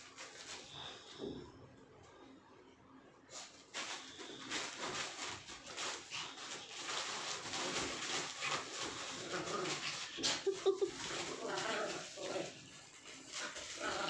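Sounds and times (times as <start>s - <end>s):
dogs' paws scuffling: 0.0s - 1.4s, 3.3s - 14.0s
plastic bag and bedding rustling: 0.0s - 1.4s, 3.3s - 14.0s.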